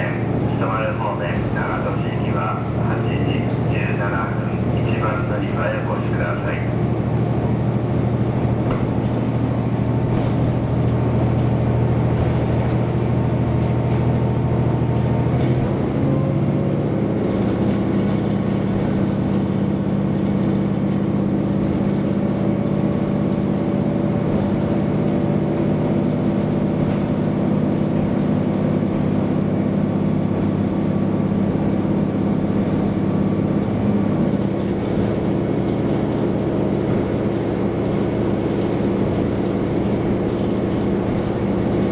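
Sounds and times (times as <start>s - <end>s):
diesel railcar engine running: 0.0s - 41.9s.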